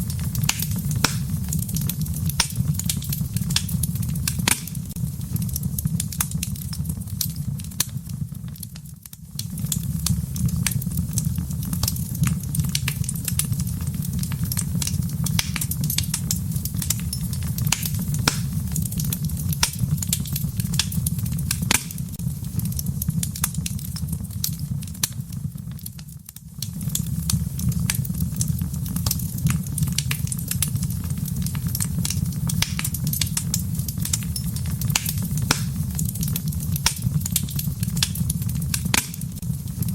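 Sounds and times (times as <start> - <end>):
fire crackles and pops: 0.0 - 39.9
fire low rumble: 0.0 - 39.9.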